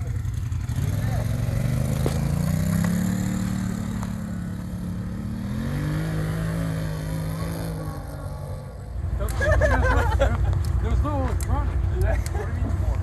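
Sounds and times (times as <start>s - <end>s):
quad bike engine running: 0.0s - 12.1s.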